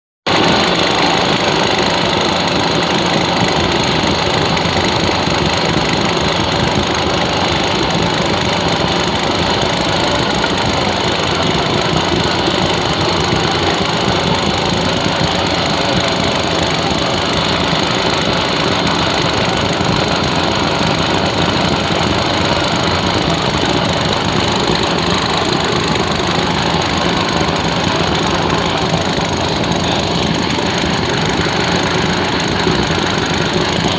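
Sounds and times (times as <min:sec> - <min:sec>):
small engine running: 0:00.3 - 0:33.9.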